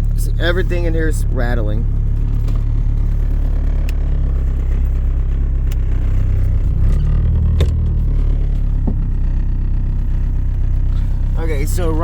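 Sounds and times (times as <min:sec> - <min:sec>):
car engine idling: 0:00.0 - 0:12.0
interior trim rattling: 0:00.0 - 0:12.0.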